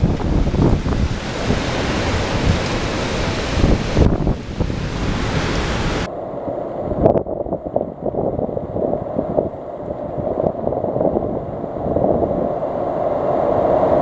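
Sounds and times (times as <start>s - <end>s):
gusts buffeting microphone: 0.0s - 14.0s
hurricane wind and rain: 0.0s - 14.0s.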